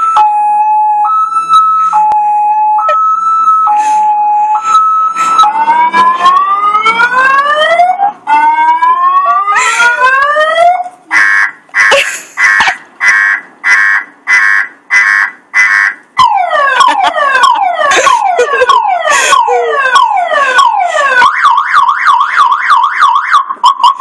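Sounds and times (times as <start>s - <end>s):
car alarm siren: 0.0s - 24.0s.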